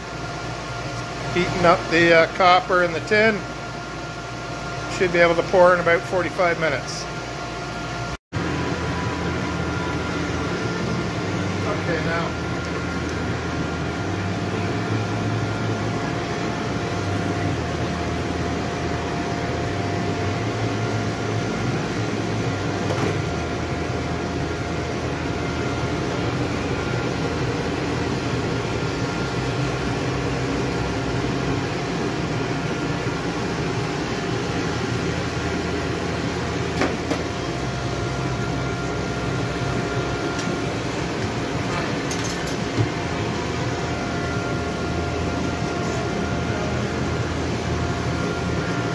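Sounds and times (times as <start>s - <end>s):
furnace burner rushing: 0.0s - 48.9s.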